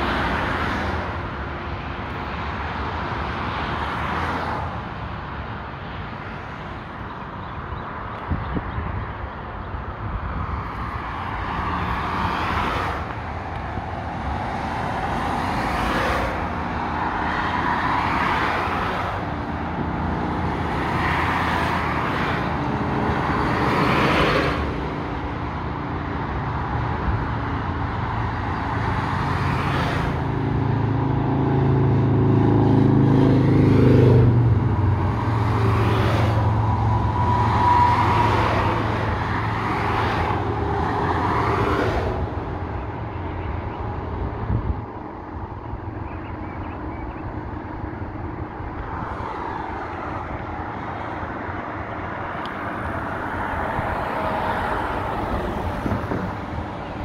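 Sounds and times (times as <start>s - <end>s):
heavy vehicle engine hum: 0.0s - 57.0s.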